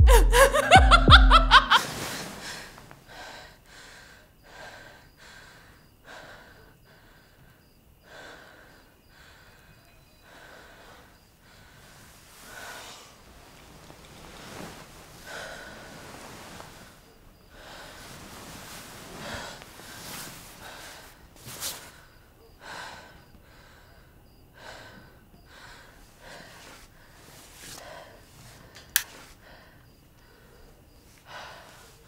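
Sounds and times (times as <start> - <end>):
woman breathing heavily: 0.0 - 32.0.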